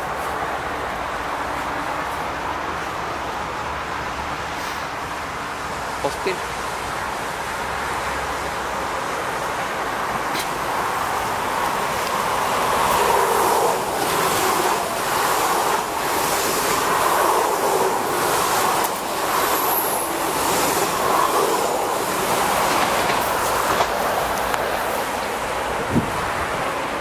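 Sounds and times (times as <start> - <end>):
train rushing past: 0.0 - 27.0.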